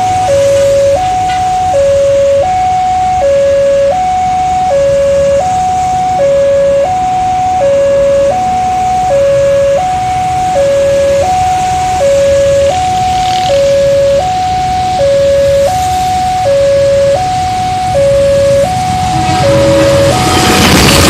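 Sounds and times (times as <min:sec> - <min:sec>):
level crossing two-tone alarm: 0:00.0 - 0:21.0
road traffic rumble: 0:00.0 - 0:21.0.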